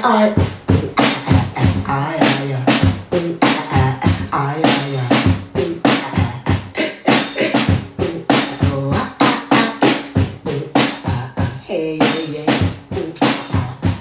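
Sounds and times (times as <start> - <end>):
looping drum beat: 0.0 - 14.0.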